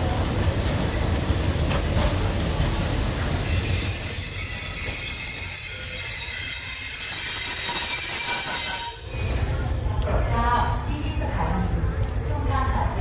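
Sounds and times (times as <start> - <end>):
wheels squealing on rails: 0.0 - 11.0
train rumbling: 0.0 - 13.0.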